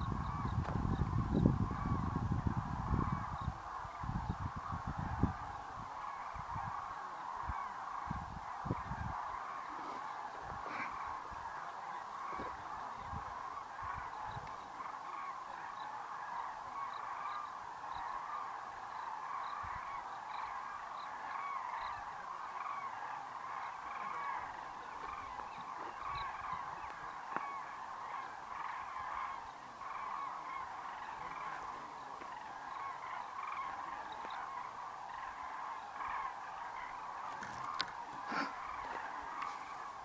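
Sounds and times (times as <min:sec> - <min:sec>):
cranes trumpeting in flight: 0:00.0 - 0:40.0.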